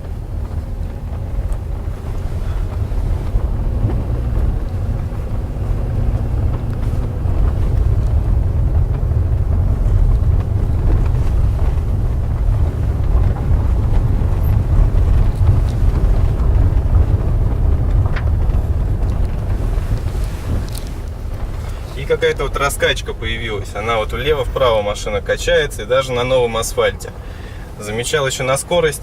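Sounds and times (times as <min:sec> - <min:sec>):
low road rumble in car cabin: 0:00.0 - 0:29.0.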